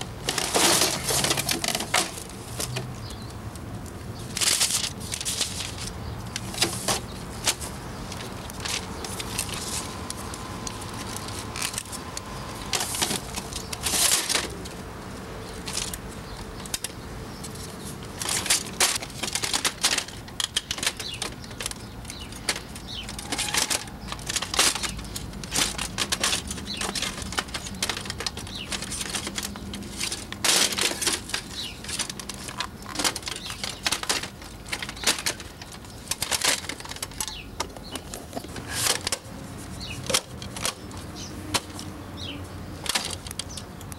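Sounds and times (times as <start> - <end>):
plastic parts clicking and snapping: 0.2 - 14.8, 15.6 - 42.0, 42.8 - 43.9.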